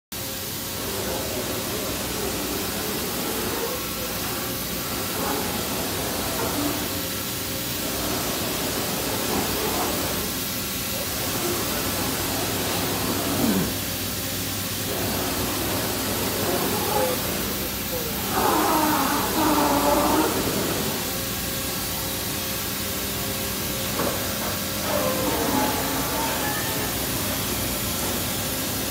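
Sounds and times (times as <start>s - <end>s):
machining center hiss and hum: 0.2s - 28.9s.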